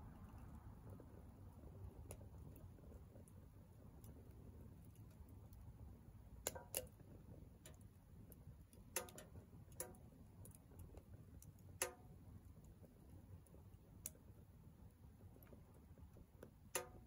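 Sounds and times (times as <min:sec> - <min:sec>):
faint low rumble: 0:00.0 - 0:17.0
firewood crackling and popping: 0:00.0 - 0:17.0.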